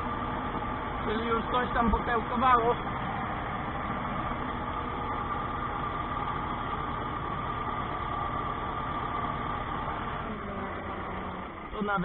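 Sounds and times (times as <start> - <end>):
steady high whine: 0.0 - 12.0
tractor engine rumble: 0.0 - 12.0.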